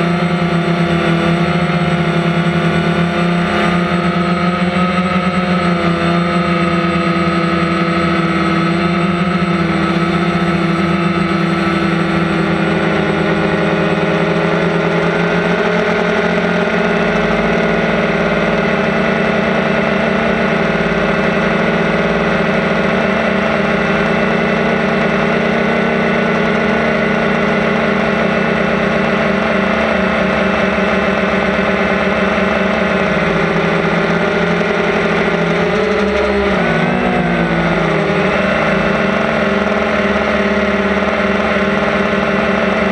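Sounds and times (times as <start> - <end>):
drone propellers whirring: 0.0 - 42.9.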